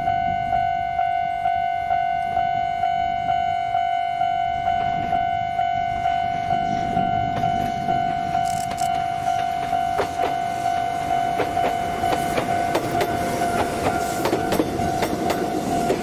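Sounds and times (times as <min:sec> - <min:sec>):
train rumble: 0:01.4 - 0:16.0.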